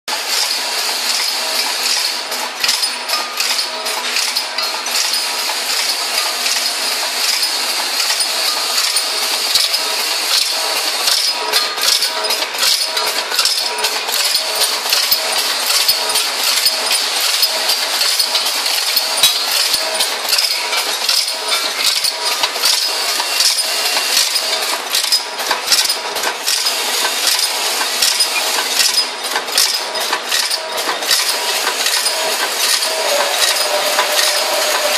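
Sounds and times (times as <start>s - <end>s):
small screws rattling in machine: 0.1s - 34.9s.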